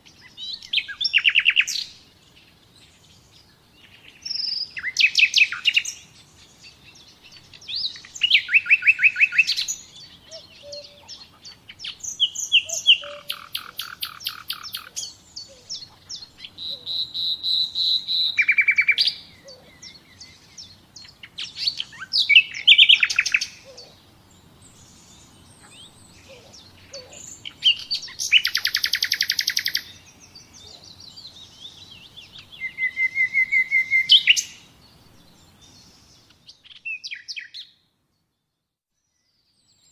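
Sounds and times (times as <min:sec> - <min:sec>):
songbird trilling: 0:03.8 - 0:24.0, 0:24.7 - 0:37.7.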